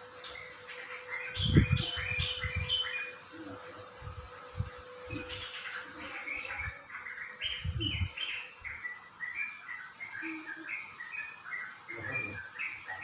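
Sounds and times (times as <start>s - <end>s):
small bird chirping: 0.2s - 3.2s, 5.1s - 13.0s.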